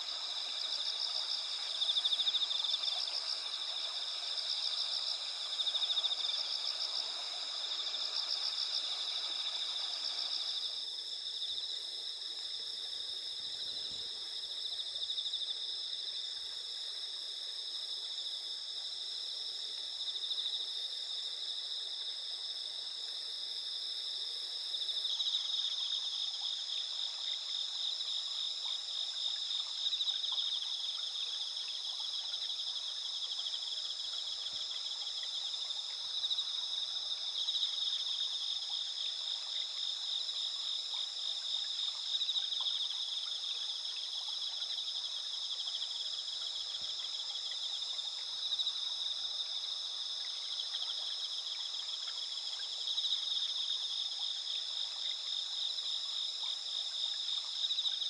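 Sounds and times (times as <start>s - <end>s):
insects trilling at night: 0.0s - 58.0s.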